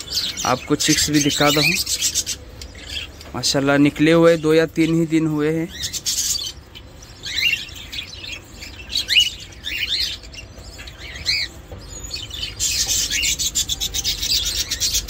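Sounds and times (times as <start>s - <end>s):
small birds cheeping: 0.0s - 15.0s.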